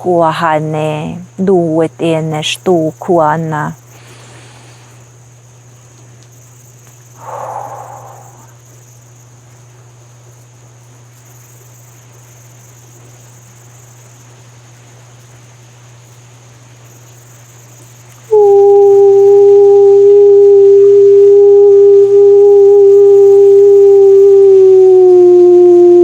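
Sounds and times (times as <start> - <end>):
background hiss: 0.0 - 26.0
crickets chirring: 0.0 - 26.0.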